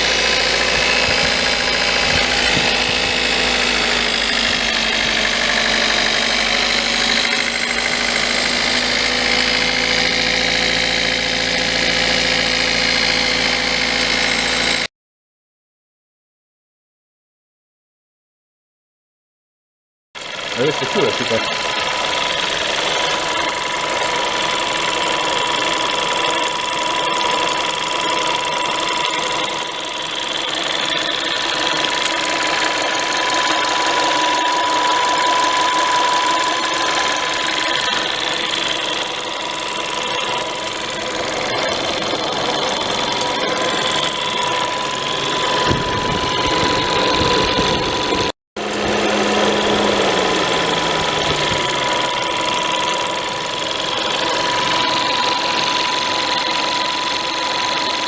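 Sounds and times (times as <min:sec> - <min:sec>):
engine running with rattle: 0:00.0 - 0:14.9, 0:20.2 - 0:58.0.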